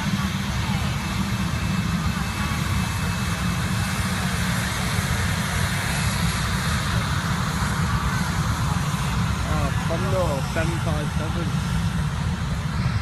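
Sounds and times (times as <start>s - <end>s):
faint high engine whine: 0.0s - 13.0s
jet engines rumbling: 0.0s - 13.0s.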